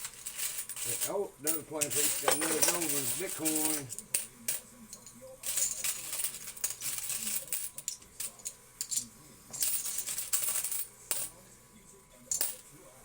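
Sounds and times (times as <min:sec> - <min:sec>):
coins clinking and sliding: 0:00.0 - 0:04.6, 0:05.4 - 0:11.3.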